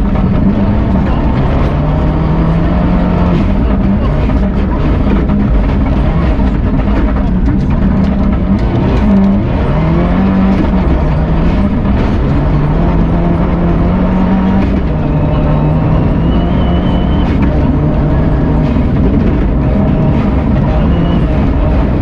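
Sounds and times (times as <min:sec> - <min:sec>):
car engine at speed: 0:00.0 - 0:22.0.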